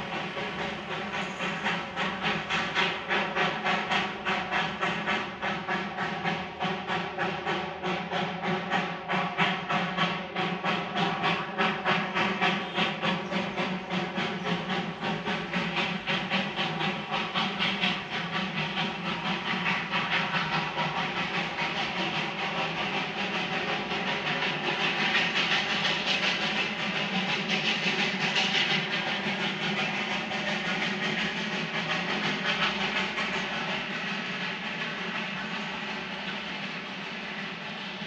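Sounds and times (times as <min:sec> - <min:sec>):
steam hiss: 0:00.0 - 0:38.0
steam locomotive chuffing: 0:00.0 - 0:38.0.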